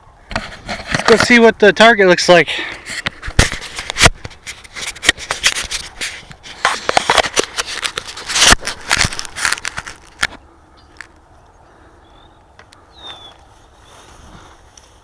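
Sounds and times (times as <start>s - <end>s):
rustling and crackling: 0.2s - 1.9s, 2.6s - 11.4s, 12.4s - 15.0s.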